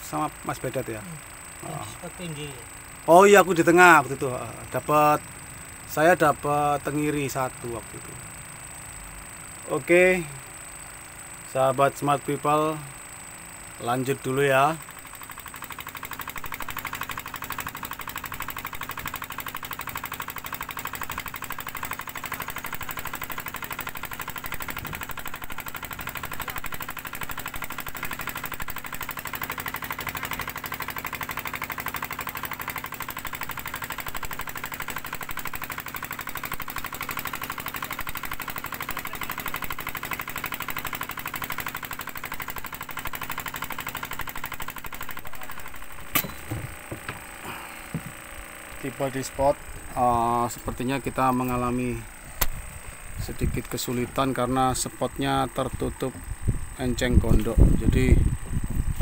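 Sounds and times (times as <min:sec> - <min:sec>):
boat engine pulsing: 0:00.0 - 0:08.5, 0:13.8 - 0:59.0.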